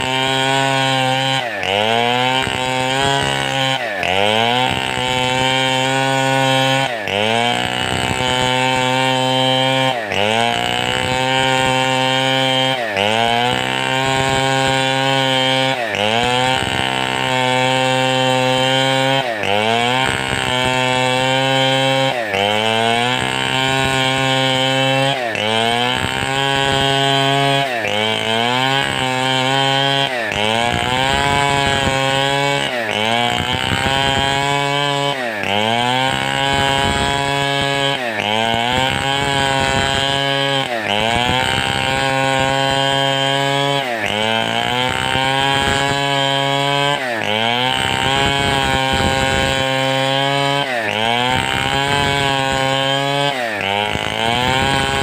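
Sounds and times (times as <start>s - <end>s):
chainsaw running hard: 0.0s - 55.0s.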